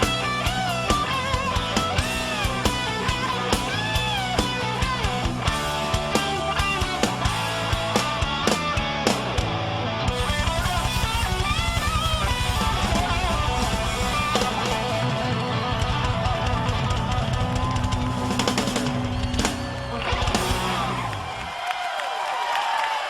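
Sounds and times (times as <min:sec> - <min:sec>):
electric guitars strummed: 0:00.0 - 0:21.5
drum kit: 0:00.0 - 0:21.6.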